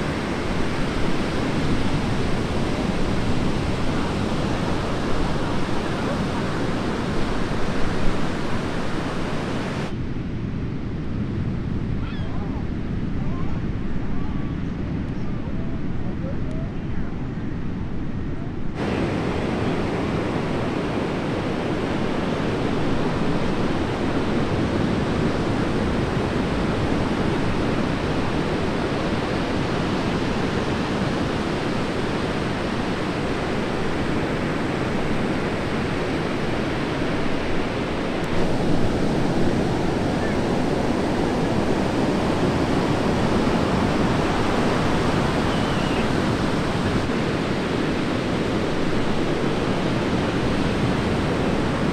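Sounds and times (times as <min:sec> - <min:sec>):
ocean surf breaking: 0:00.0 - 0:09.9, 0:18.6 - 0:51.9.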